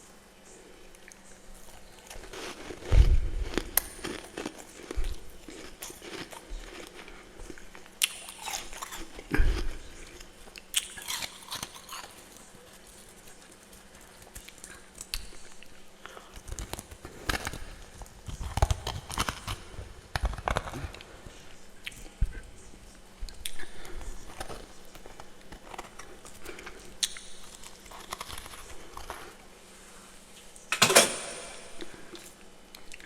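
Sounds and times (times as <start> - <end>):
crunching frost while chewing: 0.0 - 33.0.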